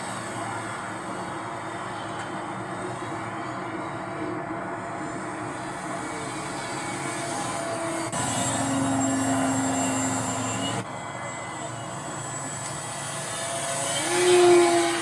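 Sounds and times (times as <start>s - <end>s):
small airplane engine in flight: 0.0s - 15.0s.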